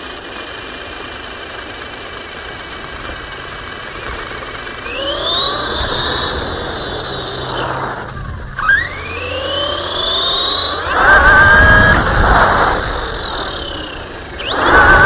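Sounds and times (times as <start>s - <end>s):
toy car motor whining: 0.0s - 15.0s
tyres rumbling on pavement: 0.0s - 15.0s.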